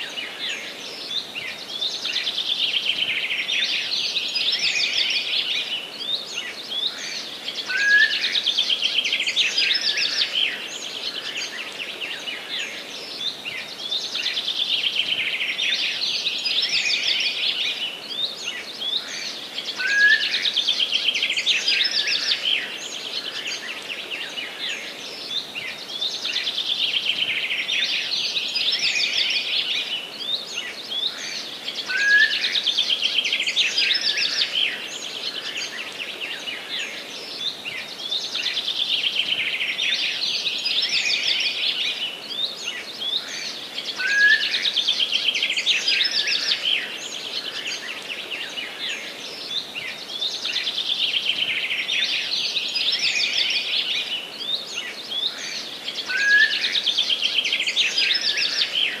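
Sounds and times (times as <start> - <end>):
birds twittering and trilling: 0.0 - 59.0.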